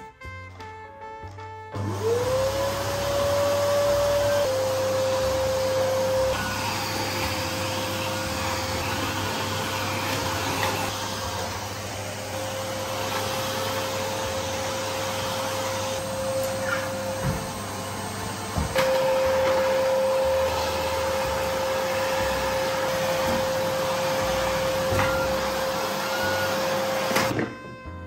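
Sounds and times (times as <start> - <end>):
vacuum cleaner motor whine: 1.8 - 27.8.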